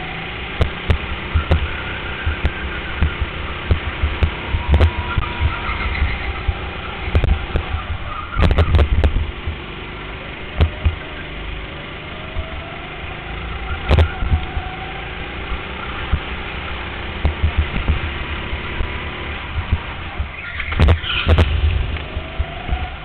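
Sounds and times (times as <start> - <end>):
go-kart engine running: 0.0 - 23.0.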